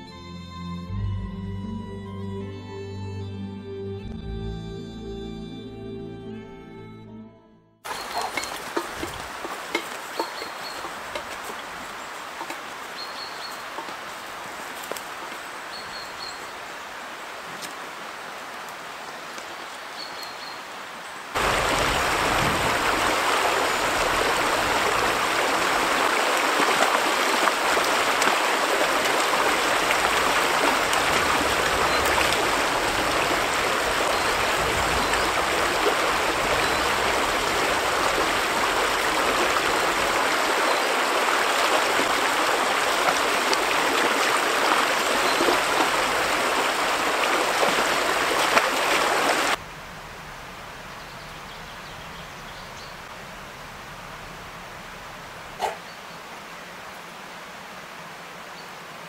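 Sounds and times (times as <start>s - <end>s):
stream running over rocks: 7.8s - 59.0s.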